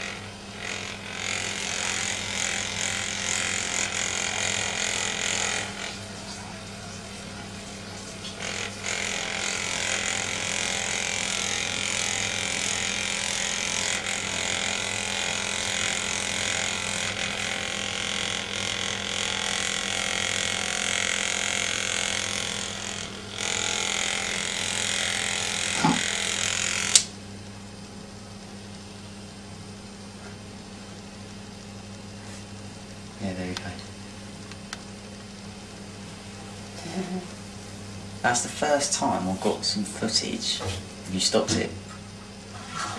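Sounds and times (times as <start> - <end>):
massager motor buzzing: 0.0 - 42.9.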